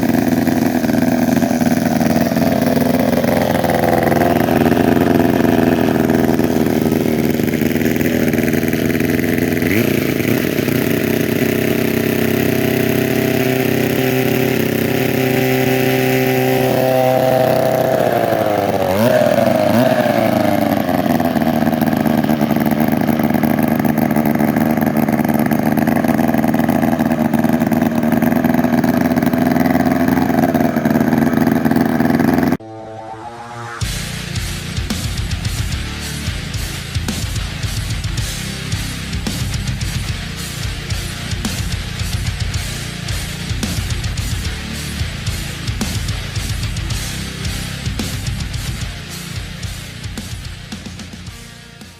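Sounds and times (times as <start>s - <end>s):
chainsaw engine running: 0.0s - 32.6s, 33.9s - 51.9s.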